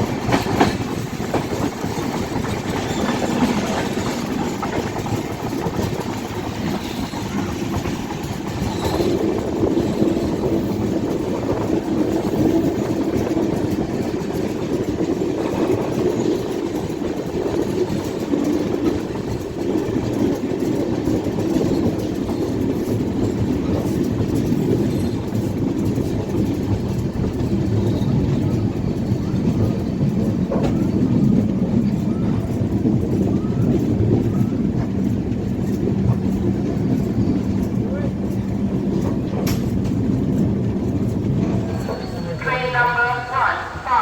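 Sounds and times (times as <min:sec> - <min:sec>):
train wheels clickety-clack: 0:00.0 - 0:42.9
train wheels rumbling on rails: 0:00.0 - 0:44.0.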